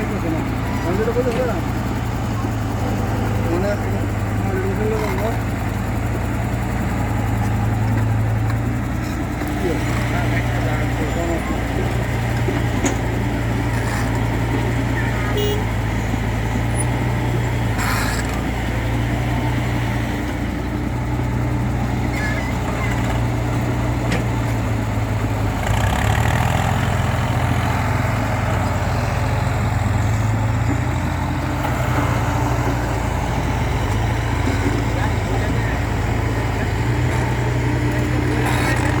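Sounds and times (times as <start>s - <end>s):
heavy machinery engine droning: 0.0s - 39.0s.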